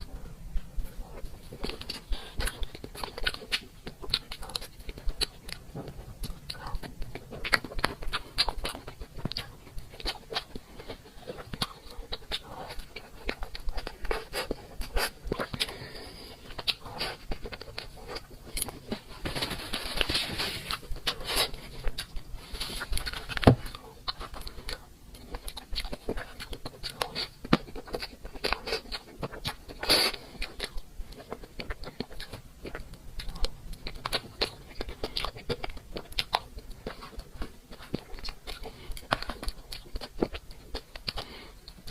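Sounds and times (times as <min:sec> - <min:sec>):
chewing and biting cake: 0:00.0 - 0:41.9.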